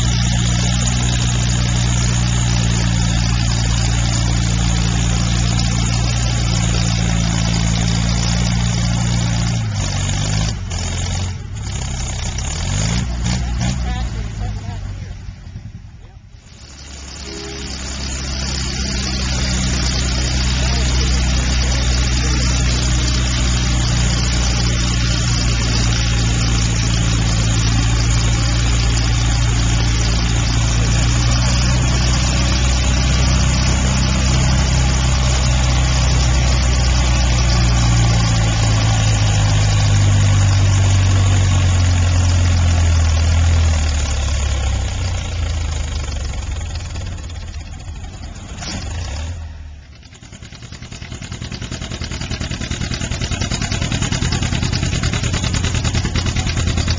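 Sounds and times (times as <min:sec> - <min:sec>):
second tractor engine: 0:00.0 - 0:56.9
tractor engine running under load: 0:00.0 - 0:56.9.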